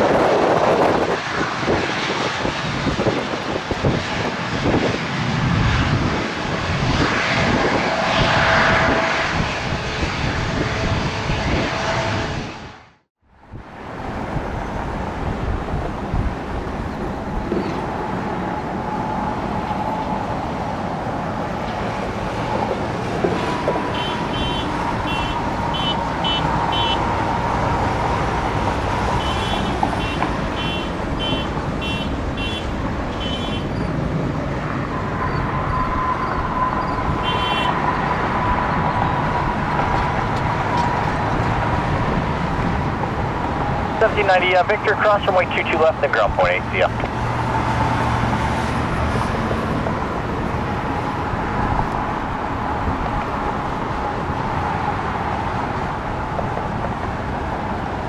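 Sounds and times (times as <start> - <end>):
jet engines rushing and whining: 0.0 - 58.0.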